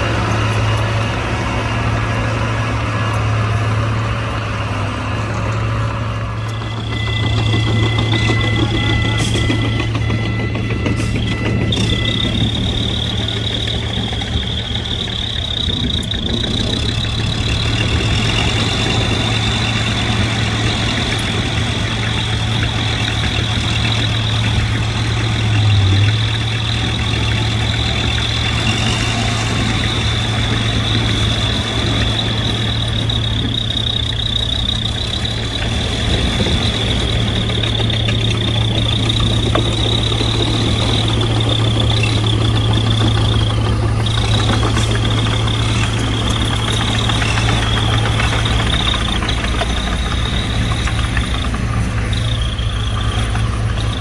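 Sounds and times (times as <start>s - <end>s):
heavy diesel machinery engine drone: 0.0s - 54.0s
high mechanical whine: 0.0s - 54.0s.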